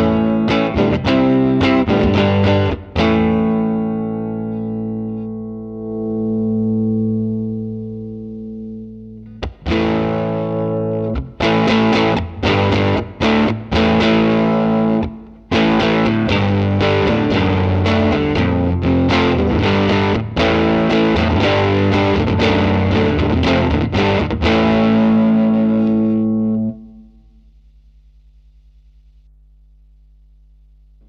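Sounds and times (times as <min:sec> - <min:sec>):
distorted electric guitar chords: 0:00.0 - 0:27.6
faint steady hum: 0:00.0 - 0:31.0.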